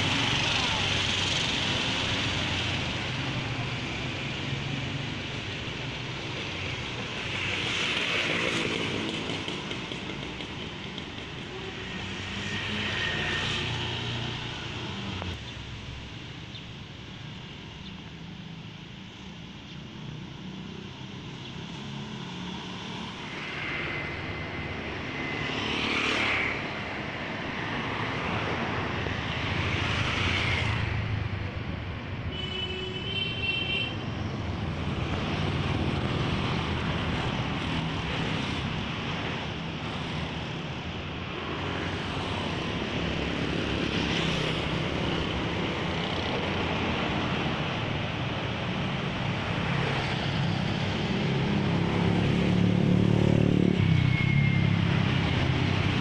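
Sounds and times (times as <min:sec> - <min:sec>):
motorcycles and cars passing: 0:00.0 - 0:56.0.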